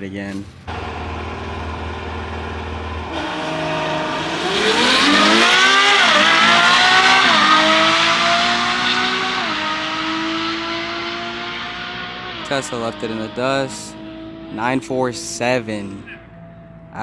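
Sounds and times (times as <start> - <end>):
car engine accelerating hard: 0.7 - 17.0.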